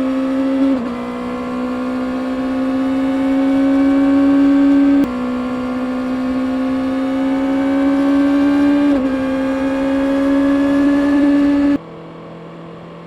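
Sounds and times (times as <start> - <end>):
motorcycle engine at high revs: 0.0 - 11.8.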